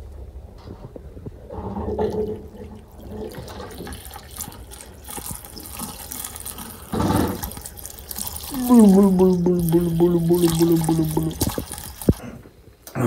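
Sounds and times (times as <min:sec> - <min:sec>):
fuel pouring through funnel: 0:00.9 - 0:12.3.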